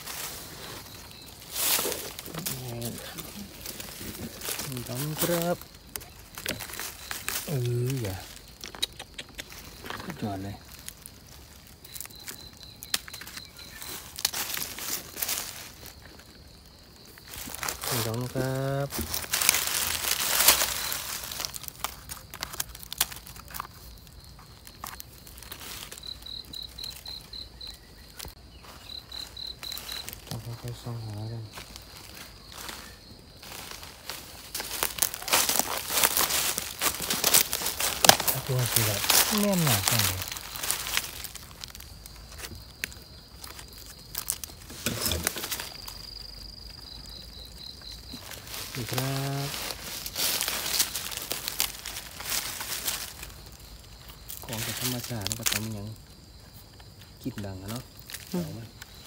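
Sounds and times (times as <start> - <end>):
sharp crackles: 0.0 - 56.1
rustling: 0.0 - 57.2
insect chirping: 0.0 - 59.0.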